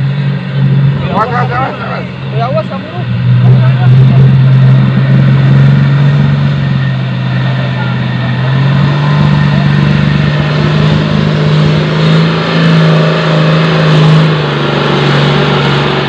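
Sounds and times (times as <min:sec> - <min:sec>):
jeep engine under heavy throttle: 0:00.0 - 0:16.0.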